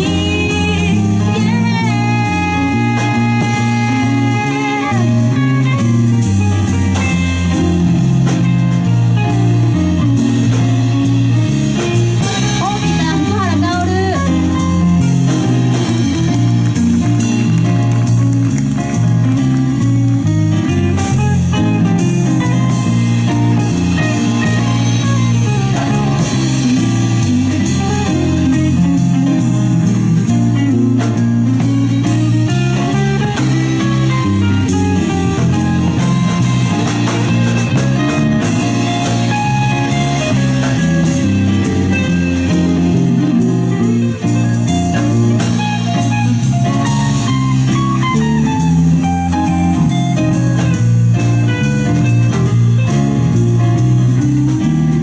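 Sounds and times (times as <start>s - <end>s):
bass guitar: 0.0s - 55.0s
drum kit: 0.0s - 55.0s
guitar: 0.0s - 55.0s.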